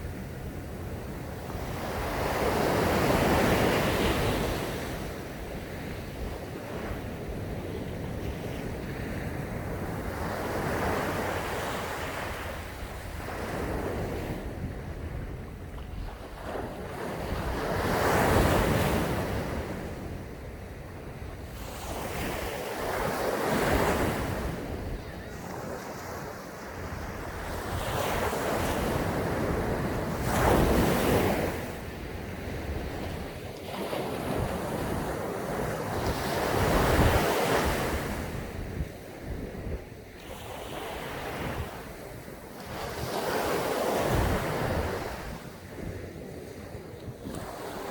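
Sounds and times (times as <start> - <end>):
sea waves breaking on a beach: 0.0 - 47.9.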